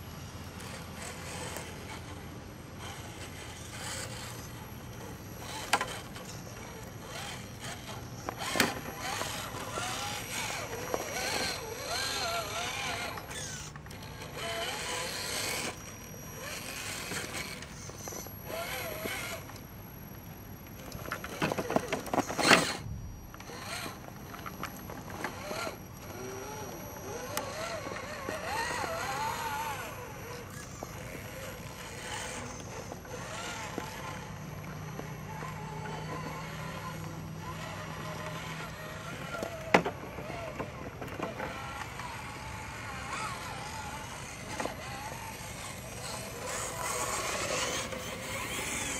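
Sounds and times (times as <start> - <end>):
toy car electric motor whining: 0.0 - 48.9.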